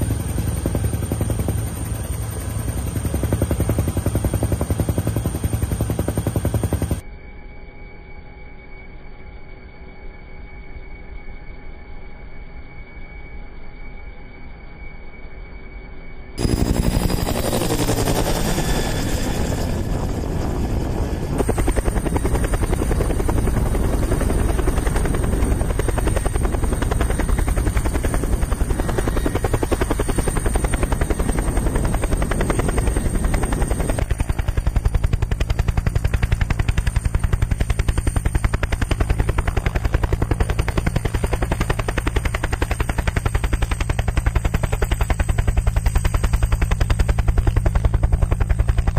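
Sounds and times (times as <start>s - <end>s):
helicopter rotor chop: 0.0s - 7.0s, 16.4s - 48.9s
high turbine whine: 0.0s - 48.9s.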